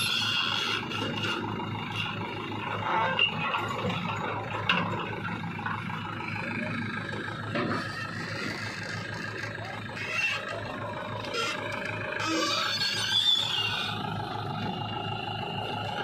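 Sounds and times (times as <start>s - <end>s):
backhoe diesel engine under load: 0.0s - 16.0s.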